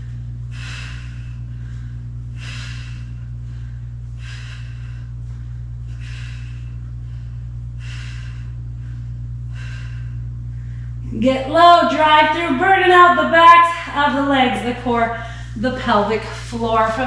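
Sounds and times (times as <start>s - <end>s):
woman's forceful breaths: 0.0s - 11.3s, 14.6s - 17.0s
steady low hum: 0.0s - 17.0s.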